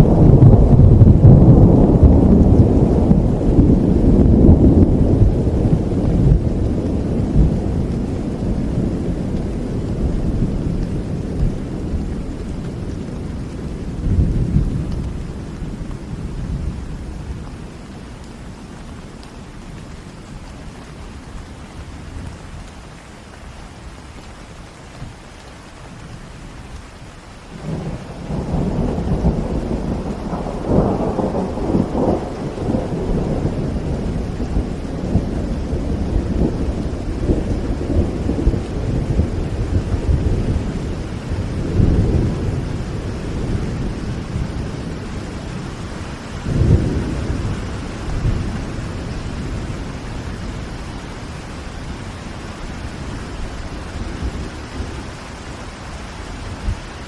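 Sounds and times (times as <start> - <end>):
rolling thunder: 0.0 - 17.8, 27.6 - 57.0
steady rain: 0.0 - 57.0.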